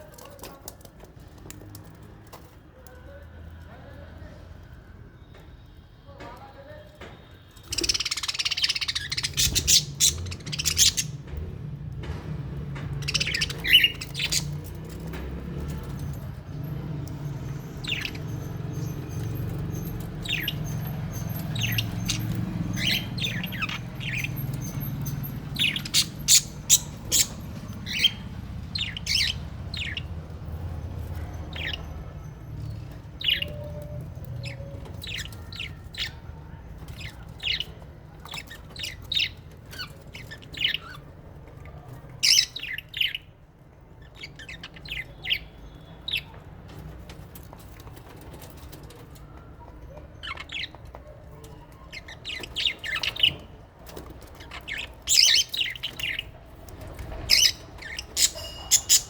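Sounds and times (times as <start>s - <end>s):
parrots chirping and squawking: 7.6s - 11.6s, 12.7s - 59.0s.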